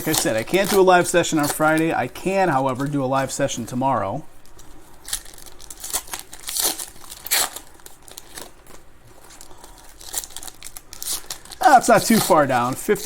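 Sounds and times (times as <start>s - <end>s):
plastic wrappers crinkling and tearing: 0.0s - 13.0s.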